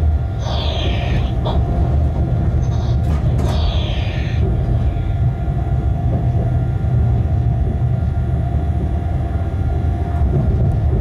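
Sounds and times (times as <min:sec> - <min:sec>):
locomotive low rumble: 0:00.0 - 0:11.0.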